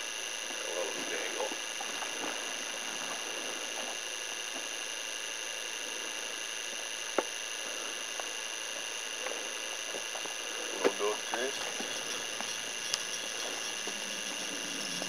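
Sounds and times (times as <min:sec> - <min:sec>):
faint high-pitched whine: 0:00.0 - 0:15.0
steady hiss: 0:00.0 - 0:15.0.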